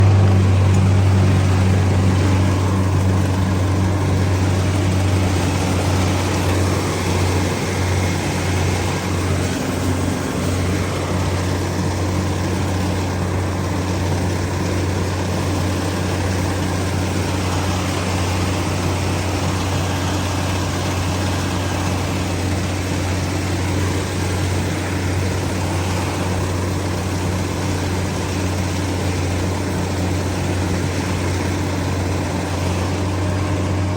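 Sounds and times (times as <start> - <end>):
harvester engine humming: 0.0 - 33.9.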